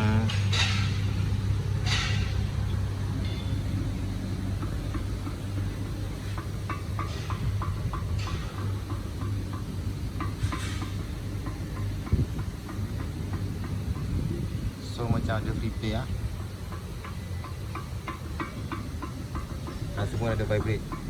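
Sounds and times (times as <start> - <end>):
low workshop hum: 0.0 - 21.0.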